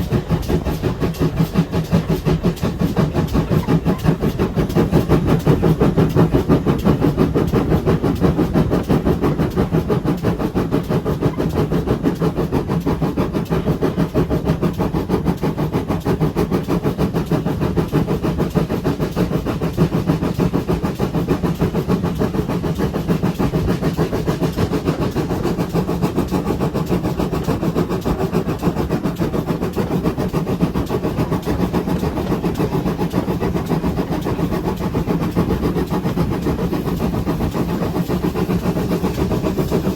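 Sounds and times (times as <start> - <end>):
steam train rumbling and rattling: 0.0 - 39.9.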